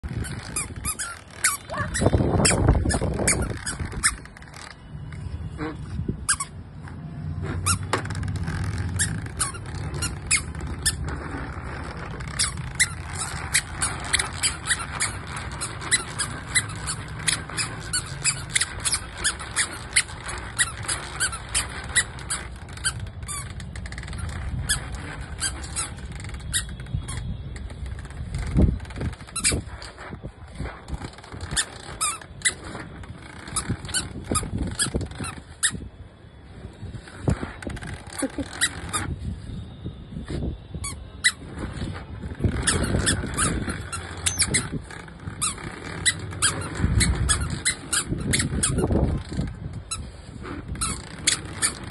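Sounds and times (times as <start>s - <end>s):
plastic wheels rumbling on concrete: 0.0s - 51.9s
sharp squeaks: 0.0s - 51.9s.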